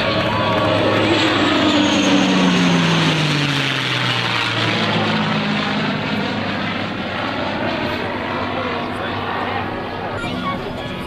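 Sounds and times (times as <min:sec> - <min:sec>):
jet engine roar: 0:00.0 - 0:11.0
propeller aircraft drone: 0:00.0 - 0:11.0.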